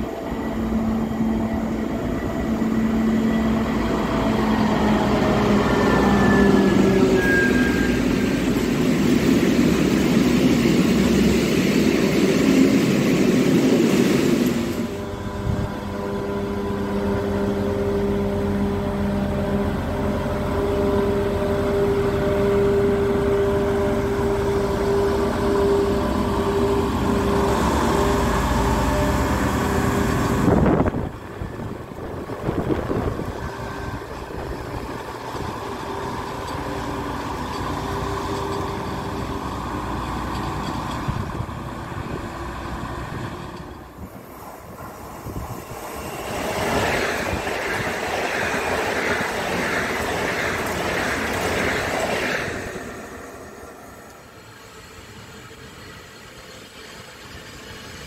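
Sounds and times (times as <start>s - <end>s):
diesel locomotive engine humming: 0.0s - 58.0s
freight train rumbling: 0.0s - 58.0s.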